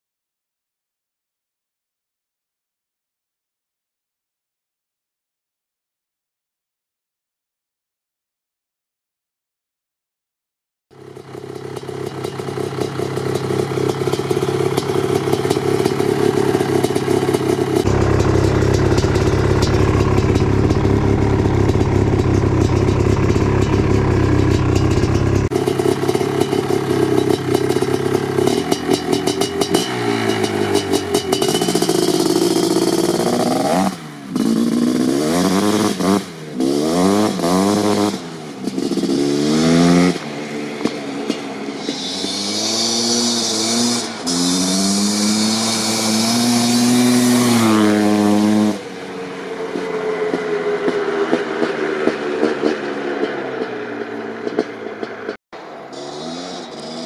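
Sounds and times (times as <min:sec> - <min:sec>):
quad two-stroke engine revving: 0:11.0 - 0:57.0.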